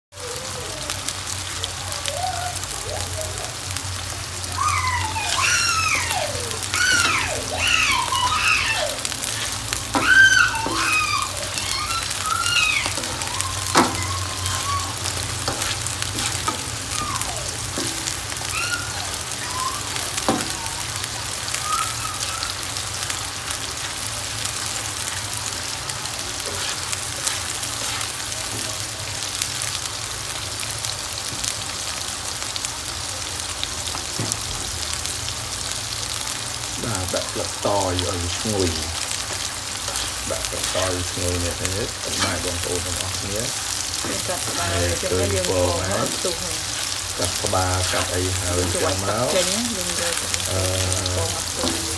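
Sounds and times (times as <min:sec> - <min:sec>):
larvae sizzling in oil: 0:00.1 - 0:51.9.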